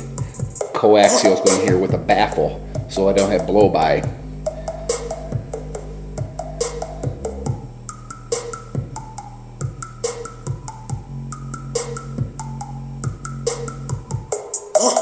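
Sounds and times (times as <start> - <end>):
deep bass line: 0.0 - 0.6, 1.2 - 14.3
kick drum beat: 0.0 - 7.7, 8.7 - 11.2, 12.2 - 14.4.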